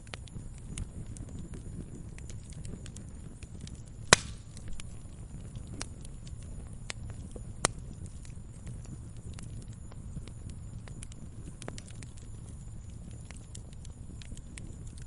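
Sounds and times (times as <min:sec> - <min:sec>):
loud sharp fire pops: 0:00.0 - 0:12.5
campfire crackling: 0:00.0 - 0:15.0.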